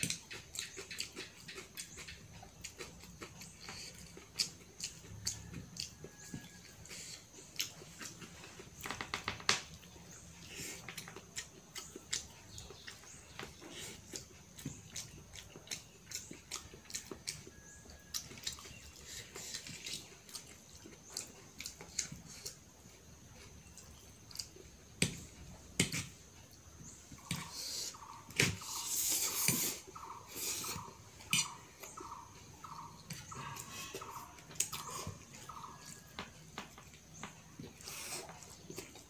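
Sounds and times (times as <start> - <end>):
chewing: 0.0 - 9.1, 9.7 - 39.0.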